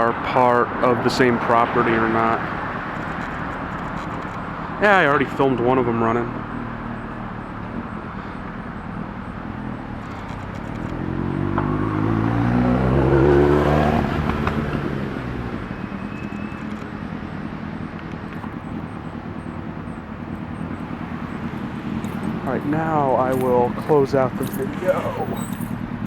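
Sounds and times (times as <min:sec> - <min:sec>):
vehicle driving past: 0:01.0 - 0:18.0, 0:20.6 - 0:26.0
outdoor background hum: 0:02.4 - 0:11.8, 0:14.1 - 0:26.0.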